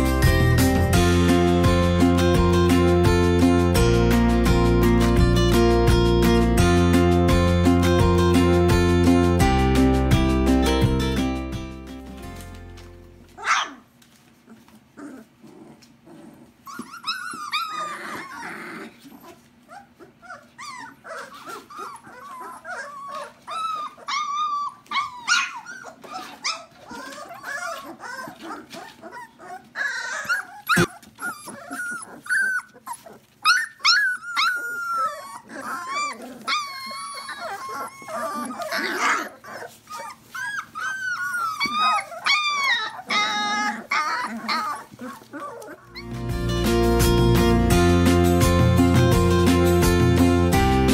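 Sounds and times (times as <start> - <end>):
puppies whimpering and yipping: 0.0 - 50.9.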